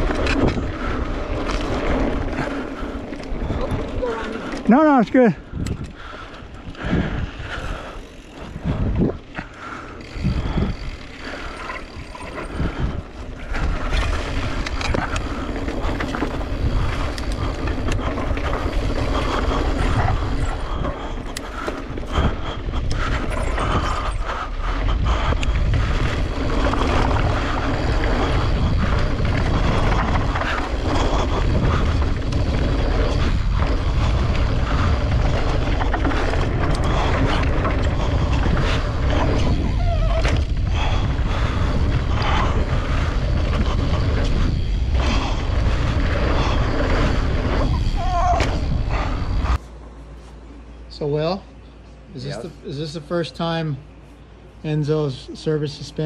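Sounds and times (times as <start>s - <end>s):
bike rattling over bumps: 0.0s - 49.6s
wind buffeting microphone: 0.0s - 49.6s
bike tyres rolling on dirt: 0.0s - 51.2s.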